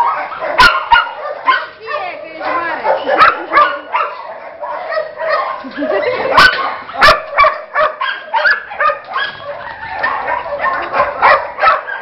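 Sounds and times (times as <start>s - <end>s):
dogs barking and yipping: 0.0s - 12.0s.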